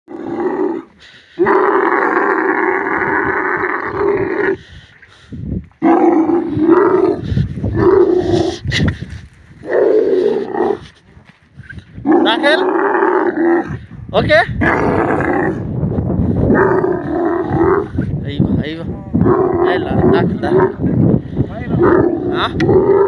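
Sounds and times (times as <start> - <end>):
camels groaning: 0.1 - 4.6, 5.8 - 11.0, 11.7 - 18.2, 19.1 - 23.0.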